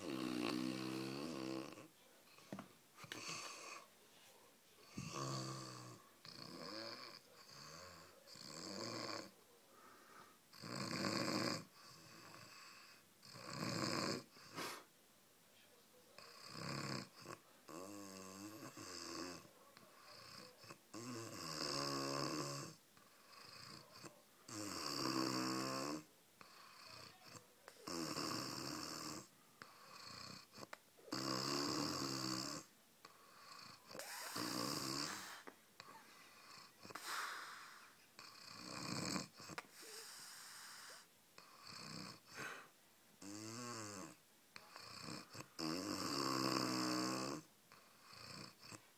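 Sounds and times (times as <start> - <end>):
person snoring: 0.0 - 1.9, 4.8 - 9.3, 10.1 - 14.8, 16.2 - 48.8.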